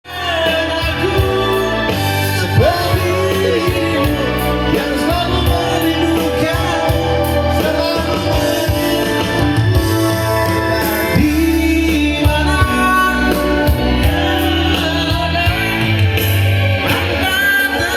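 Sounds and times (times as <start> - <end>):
band playing with steady beat: 0.0 - 17.9
man singing: 0.0 - 17.9.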